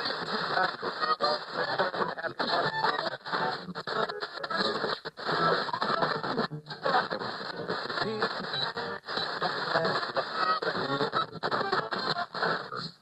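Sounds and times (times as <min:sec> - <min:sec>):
radio music snatches: 0:00.0 - 0:13.0
radio tuning across stations: 0:00.0 - 0:13.0
radio voices: 0:00.0 - 0:13.0.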